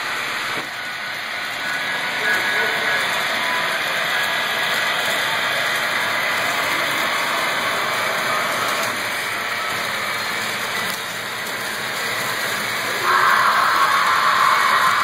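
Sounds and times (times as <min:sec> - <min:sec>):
model trains rushing on rails: 0:00.0 - 0:15.0.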